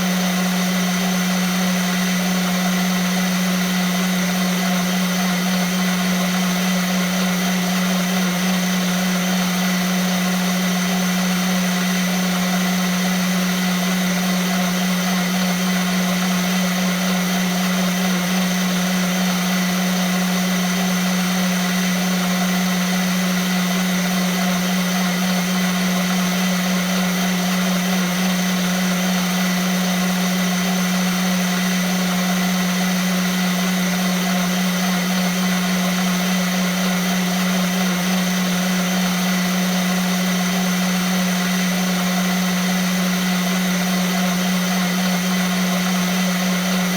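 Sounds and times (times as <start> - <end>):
blender motor running: 0.0 - 46.9.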